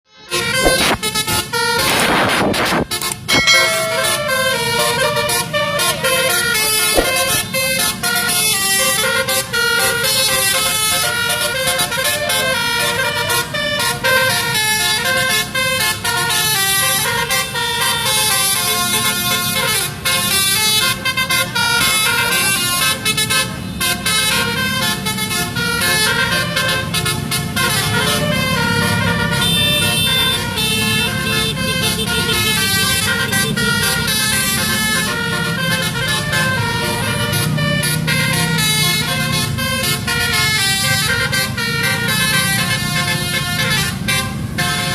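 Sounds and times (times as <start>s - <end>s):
musical bus horn melody: 0.1s - 44.9s.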